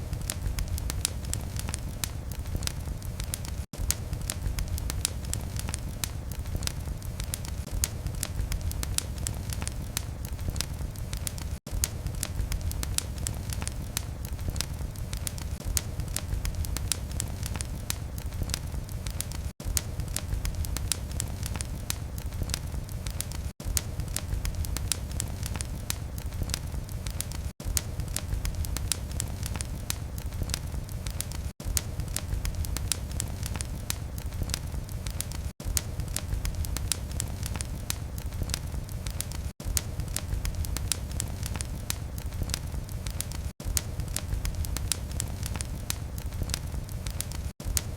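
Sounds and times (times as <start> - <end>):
low rumble of flame: 0.0 - 47.9
wood fire crackling and popping: 0.0 - 47.9.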